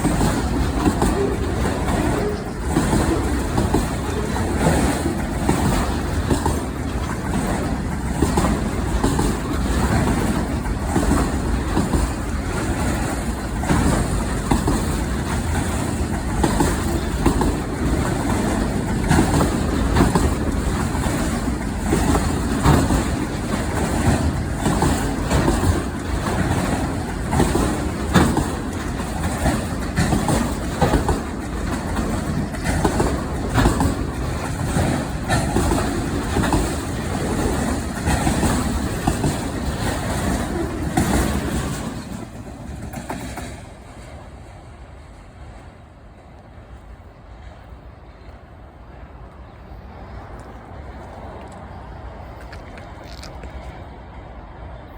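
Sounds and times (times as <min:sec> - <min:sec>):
wheels clicking over track: 0:00.0 - 0:44.4, 0:50.4 - 0:53.8
train wheels rumbling on rail: 0:00.0 - 0:54.9.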